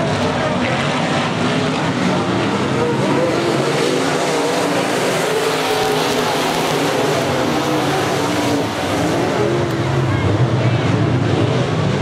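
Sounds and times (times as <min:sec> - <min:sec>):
race car engines racing: 0:00.0 - 0:12.0.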